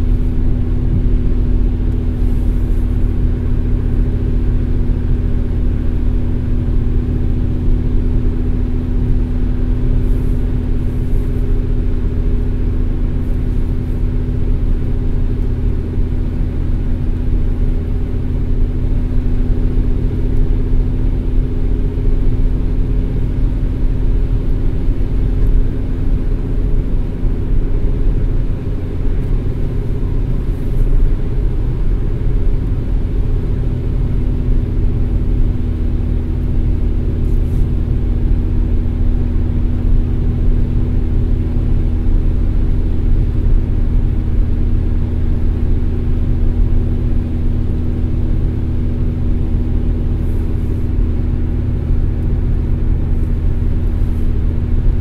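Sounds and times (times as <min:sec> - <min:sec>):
car road and engine rumble: 0:00.0 - 0:55.0
constant hum: 0:00.0 - 0:55.0.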